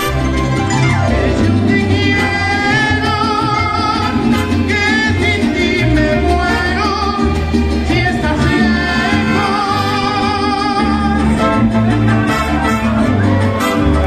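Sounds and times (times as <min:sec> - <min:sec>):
mariachi band playing: 0:00.0 - 0:14.0.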